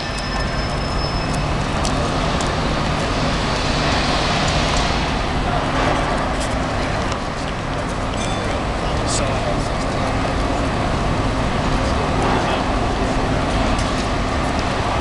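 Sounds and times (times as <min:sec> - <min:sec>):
street traffic engine hum: 0:00.0 - 0:15.0.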